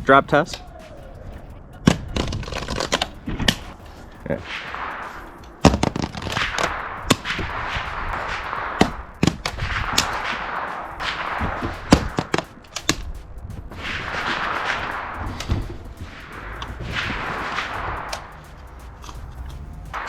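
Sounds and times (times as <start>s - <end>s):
steady rushing noise: 0.0s - 20.0s
sharp cracks and knocks: 1.9s - 3.8s, 4.6s - 20.0s.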